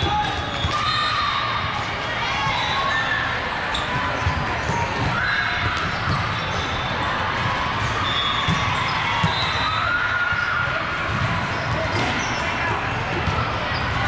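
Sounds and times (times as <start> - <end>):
hubbub of distant voices: 0.0 - 14.0.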